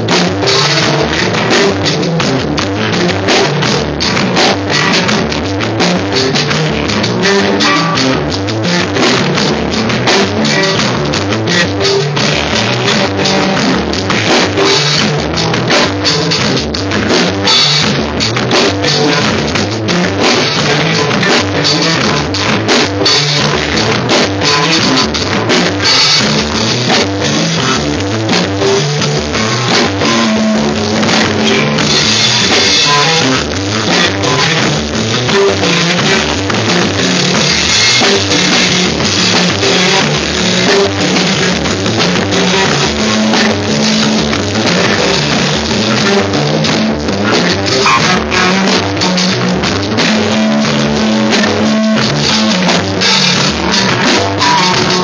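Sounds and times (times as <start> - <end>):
drum kit with cymbals: 0.0 - 55.0
electric guitar: 0.0 - 55.0
low bass notes: 0.0 - 55.0.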